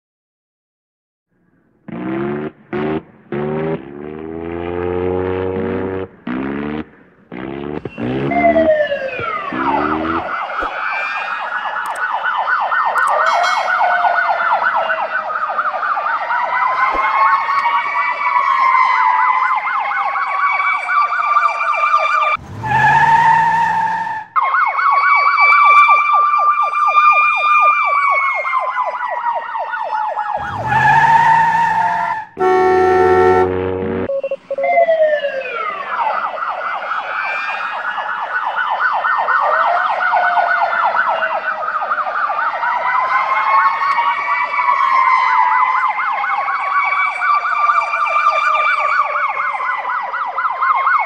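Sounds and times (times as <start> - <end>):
siren-like warbling wail: 1.9 - 51.0.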